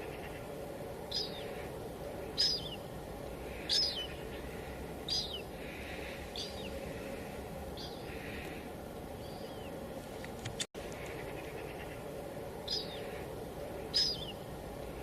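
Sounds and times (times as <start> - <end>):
bird chirping: 0.0 - 8.6, 9.2 - 9.8, 10.9 - 14.5
light drizzle hiss: 0.0 - 15.0.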